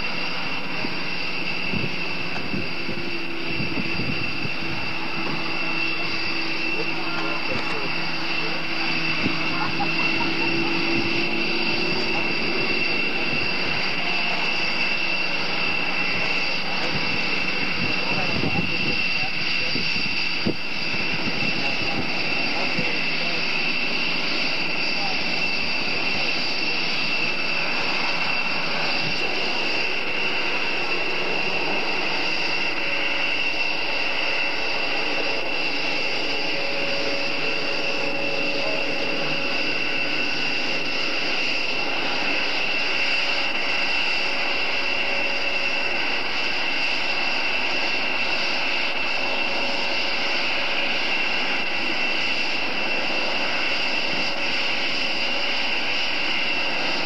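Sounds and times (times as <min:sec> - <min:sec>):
jet noise rush: 0:00.0 - 0:57.0
turbine whine: 0:00.0 - 0:57.0.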